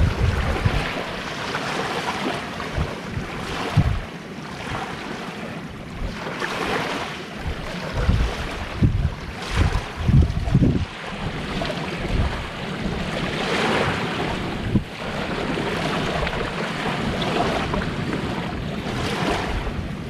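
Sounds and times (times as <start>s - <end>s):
sea waves washing ashore: 0.0s - 20.0s
wind buffeting microphone: 0.0s - 20.0s.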